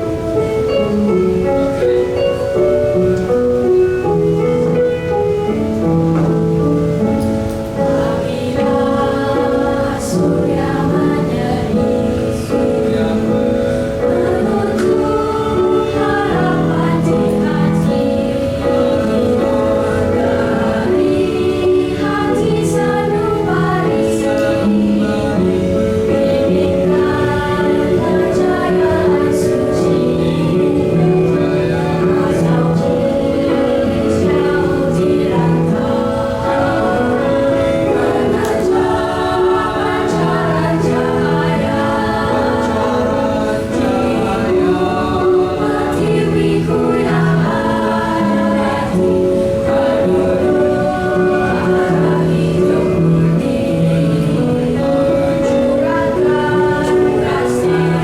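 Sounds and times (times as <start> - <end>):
vocal ensemble singing in harmony: 0.0 - 58.0.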